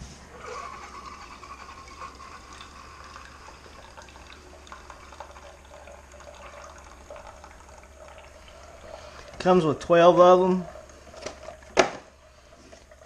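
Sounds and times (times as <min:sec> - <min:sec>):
coffee maker water gurgling: 0:00.3 - 0:13.0.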